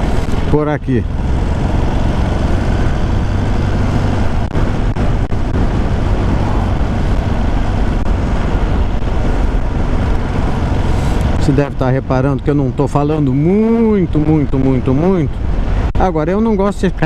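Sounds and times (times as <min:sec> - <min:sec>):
motorcycle engine cruising: 0:00.0 - 0:15.8
wind rushing on microphone: 0:00.0 - 0:17.0.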